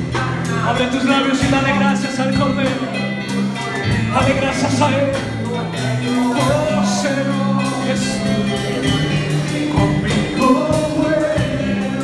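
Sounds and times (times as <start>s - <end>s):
bass line in long held notes: 0.0s - 12.0s
steady percussion: 0.0s - 12.0s
man singing into a microphone: 0.1s - 12.0s.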